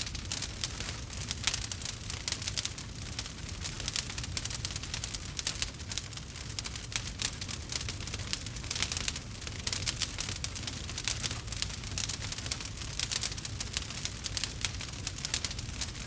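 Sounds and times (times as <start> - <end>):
campfire wood crackling: 0.0 - 16.0
low rumble of fire: 0.0 - 16.0.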